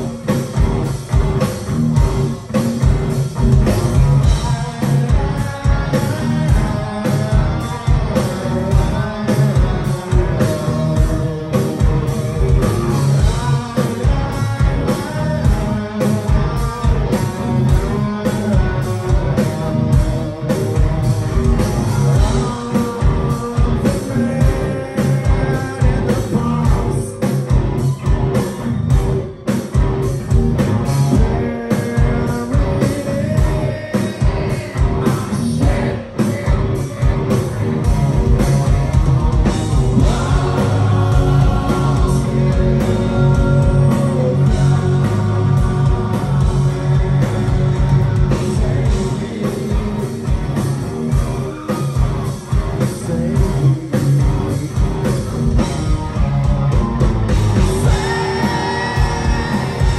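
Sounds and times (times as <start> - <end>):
live hard rock band: 0.0 - 59.9
man singing: 3.6 - 27.6, 30.9 - 55.9, 57.6 - 59.9.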